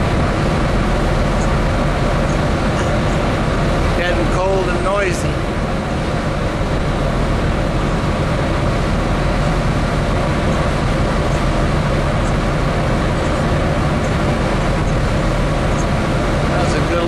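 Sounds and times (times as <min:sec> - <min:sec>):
propeller wash churning: 0:00.0 - 0:17.0
ship engines rumbling: 0:00.0 - 0:17.0.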